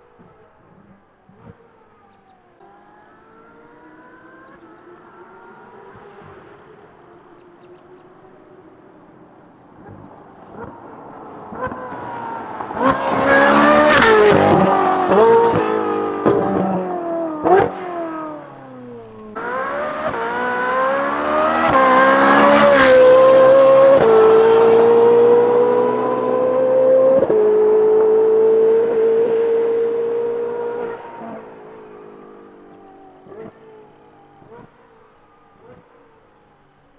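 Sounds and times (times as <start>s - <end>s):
sports car engine accelerating: 0.0s - 36.9s.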